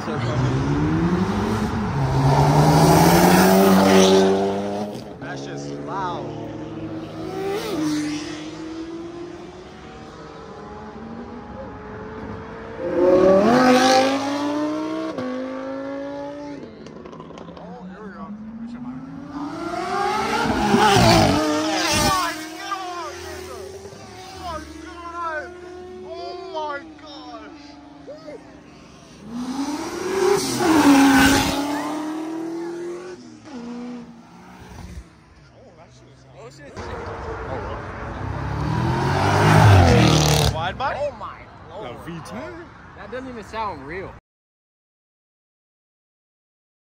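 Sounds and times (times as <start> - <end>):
car engines accelerating: 0.0 - 44.2.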